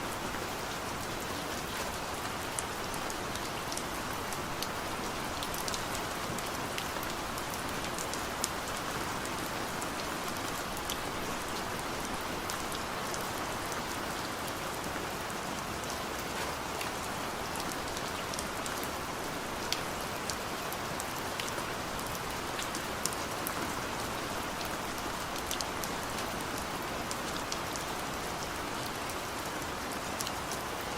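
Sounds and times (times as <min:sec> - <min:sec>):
steady rainfall: 0:00.0 - 0:30.9.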